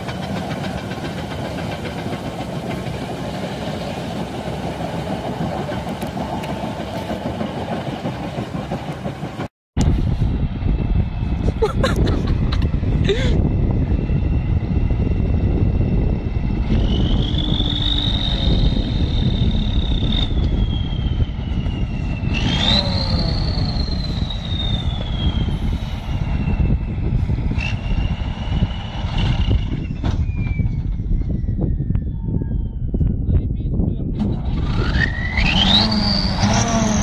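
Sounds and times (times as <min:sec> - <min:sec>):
truck diesel engine rumbling: 0:00.0 - 0:31.8
high engine whine: 0:00.0 - 0:37.0.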